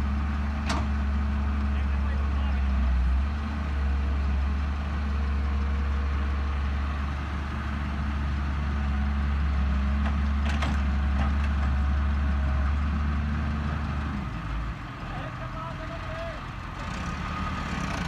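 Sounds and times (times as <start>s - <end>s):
tractor diesel engine droning: 0.0s - 18.0s.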